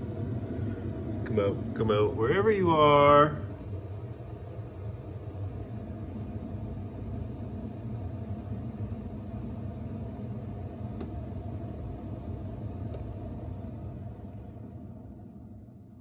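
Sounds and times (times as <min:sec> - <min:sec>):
coffee maker humming: 0:00.0 - 0:16.0.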